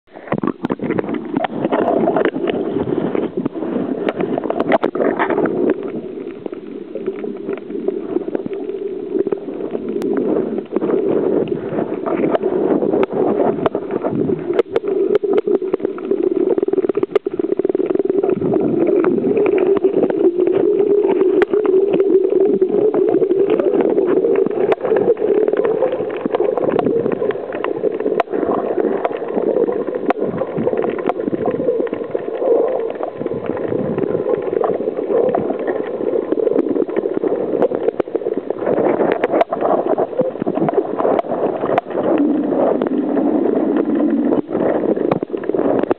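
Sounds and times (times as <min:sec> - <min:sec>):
muffled underwater hum: 0:00.1 - 0:45.9
underwater clicks and crackles: 0:00.1 - 0:45.9.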